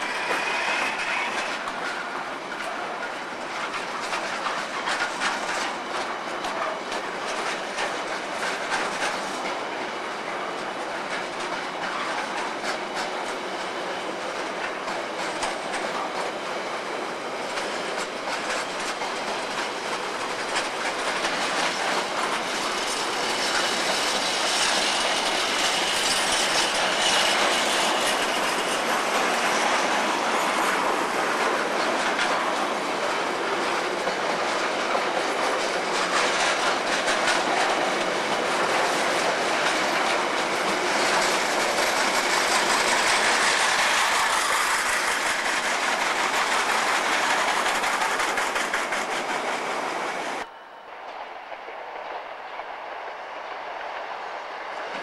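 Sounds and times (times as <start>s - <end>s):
wheels clicking over rail joints: 0.0s - 50.5s
freight train wheels rumbling on rail: 0.0s - 55.0s.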